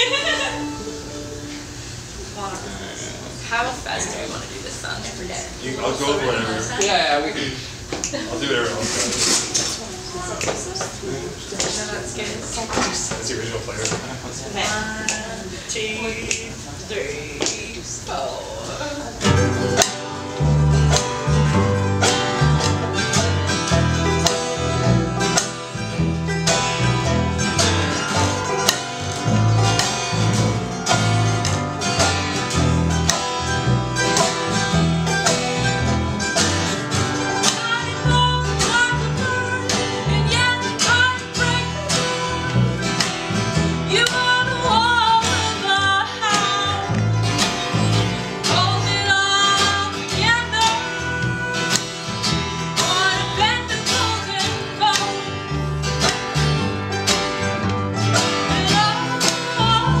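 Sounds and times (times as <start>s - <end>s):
guitar strumming and picking: 0.0s - 7.1s, 9.1s - 60.0s.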